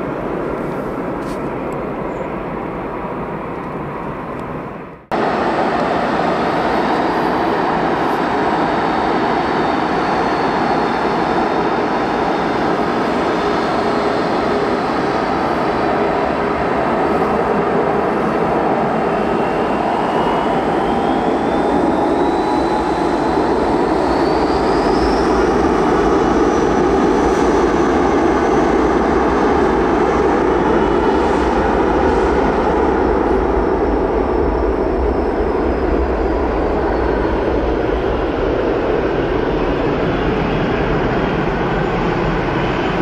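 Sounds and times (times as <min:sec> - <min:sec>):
jet engine whine: 0:00.0 - 0:43.0.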